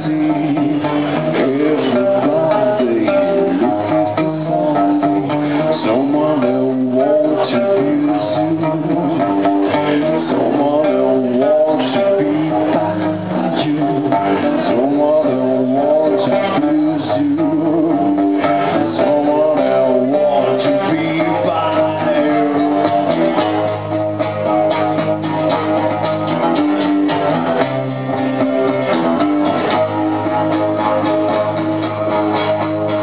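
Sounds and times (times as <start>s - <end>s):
man singing into a microphone: 0.0s - 27.4s
acoustic guitars playing: 0.0s - 33.0s.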